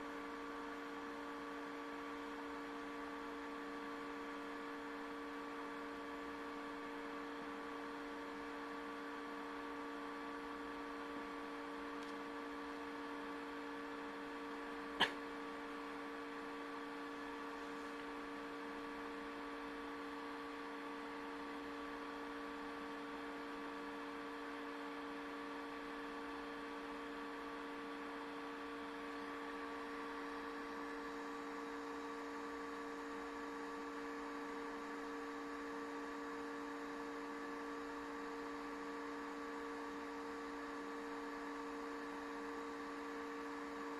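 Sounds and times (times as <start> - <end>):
electrical hum: 0.0 - 43.9.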